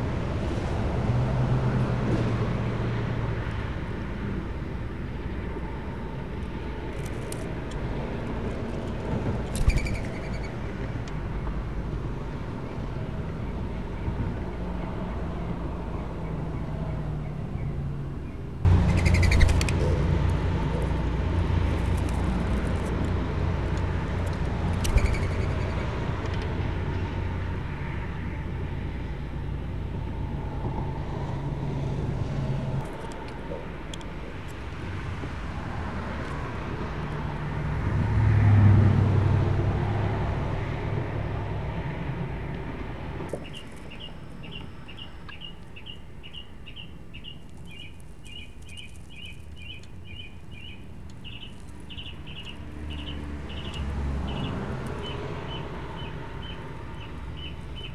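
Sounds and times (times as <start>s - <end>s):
passing road traffic rumble: 0.0s - 57.9s.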